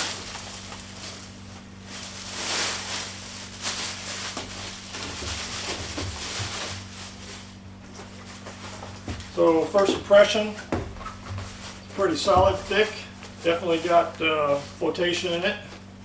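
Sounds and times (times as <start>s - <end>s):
packaging rustling and crinkling: 0.0s - 14.9s.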